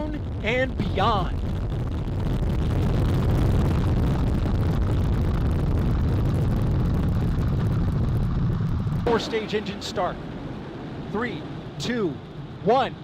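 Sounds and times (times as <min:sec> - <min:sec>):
rocket launch deep roar: 0:00.0 - 0:13.0.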